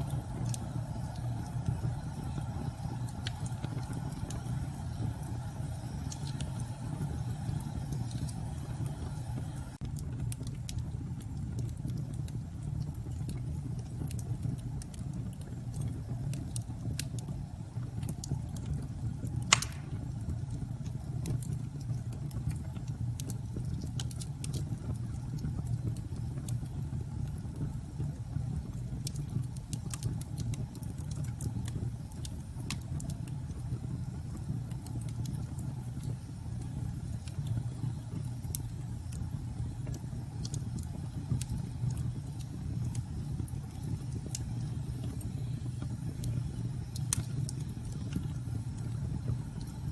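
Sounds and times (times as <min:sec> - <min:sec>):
sharp crack of fire: 0:00.0 - 0:49.9
wood fire crackling: 0:00.0 - 0:49.9.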